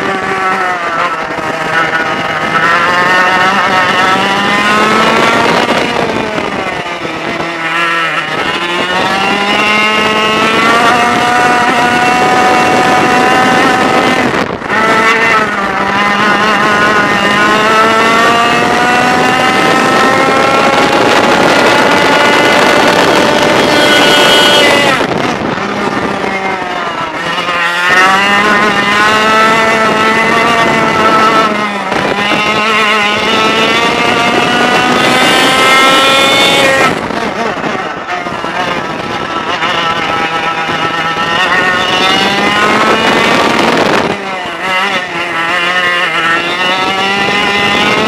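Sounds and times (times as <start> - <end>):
kart two-stroke engine accelerating: 0.0 - 48.0.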